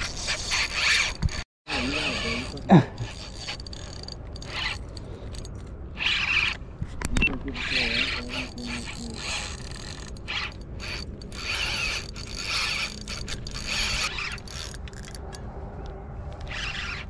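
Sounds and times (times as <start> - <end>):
fishing reel drag clicking and whirring: 0.0 - 6.6, 7.6 - 15.3, 16.5 - 17.0.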